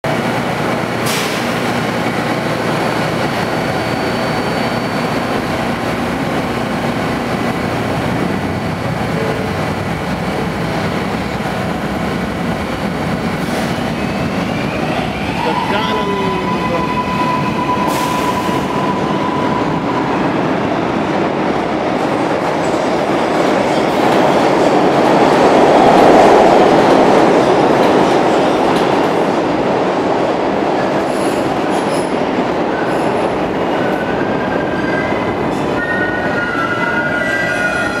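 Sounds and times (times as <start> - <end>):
subway train wheels rumbling: 0.0 - 38.0.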